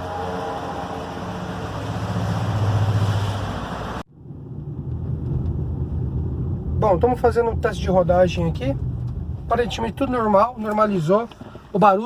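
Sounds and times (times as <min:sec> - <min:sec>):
vehicle running noise: 0:00.0 - 0:11.8
car engine humming: 0:00.0 - 0:12.0.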